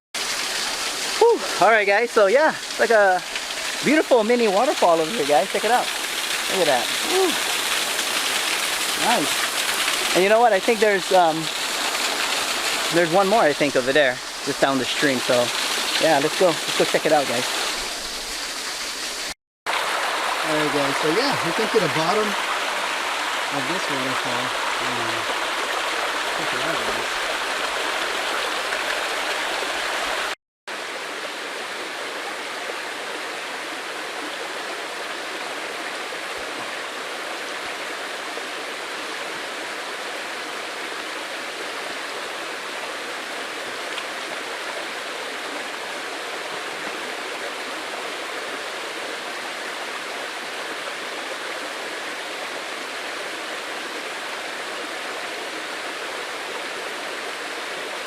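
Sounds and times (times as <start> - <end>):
waterfall rushing: 0.2 - 58.0.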